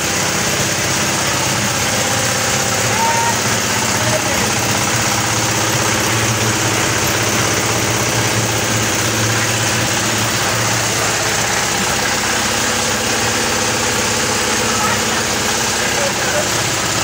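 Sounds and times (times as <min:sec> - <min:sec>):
thresher machine drone: 0:00.0 - 0:17.0.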